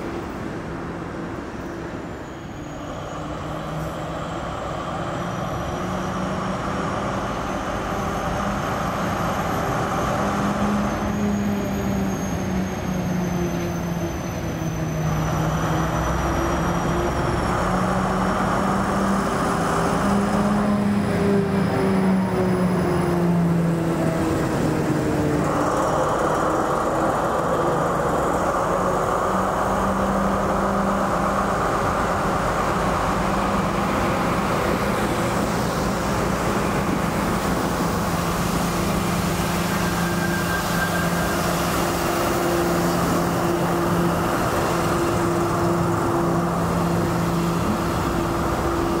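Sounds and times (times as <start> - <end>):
diesel locomotive engines droning: 0.0 - 49.0
steel wheels rumbling on rails: 0.0 - 49.0.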